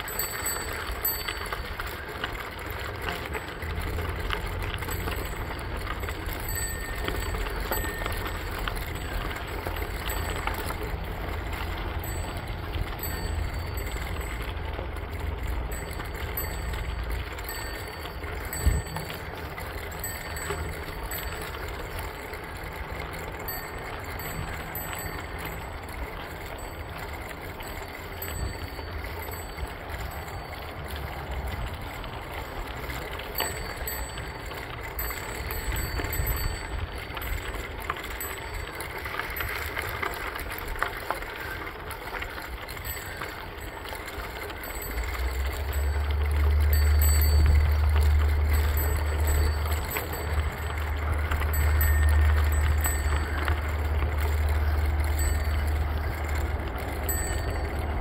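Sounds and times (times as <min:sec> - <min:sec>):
bicycle tyres on gravel: 0:00.0 - 0:58.0.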